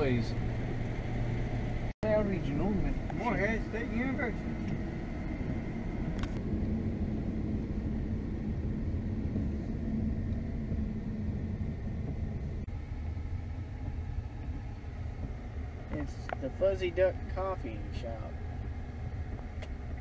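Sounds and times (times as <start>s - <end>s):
engine hum: 0.0s - 20.0s
road rumble in car cabin: 0.0s - 20.0s.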